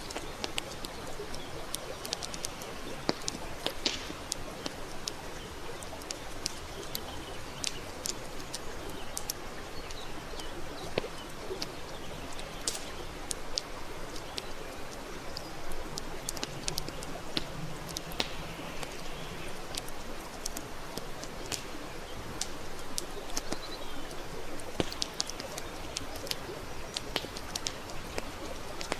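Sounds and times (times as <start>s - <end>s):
campfire crackling: 0.0s - 28.9s.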